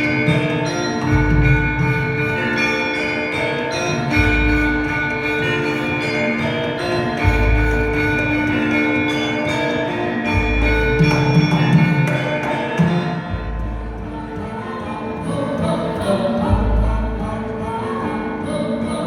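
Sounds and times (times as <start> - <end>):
gamelan music: 0.0 - 19.0
ringing metallophone tones: 0.0 - 19.0.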